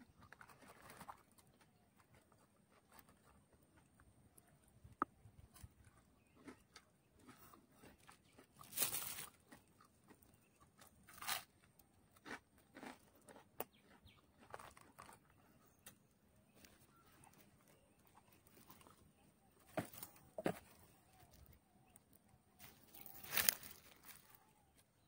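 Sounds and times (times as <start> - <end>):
crunching while eating: 0.0 - 25.0.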